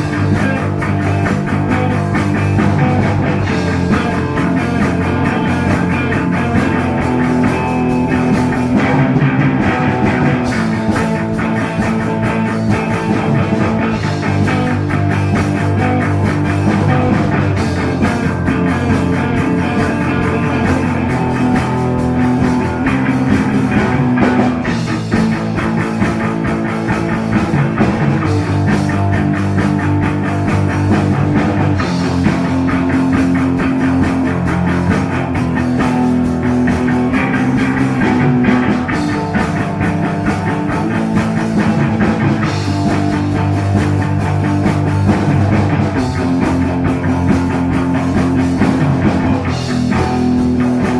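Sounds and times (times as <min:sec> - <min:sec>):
bass guitar: 0:00.0 - 0:50.9
drum kit beat: 0:00.0 - 0:50.9
electric guitars chords: 0:00.0 - 0:50.9.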